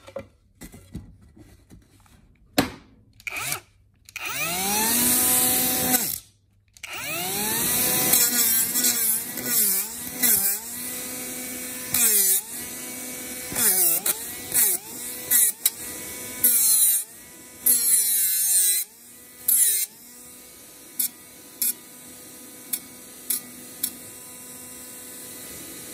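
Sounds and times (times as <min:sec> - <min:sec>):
angle grinder motor whine: 0:04.2 - 0:06.2, 0:06.8 - 0:25.9.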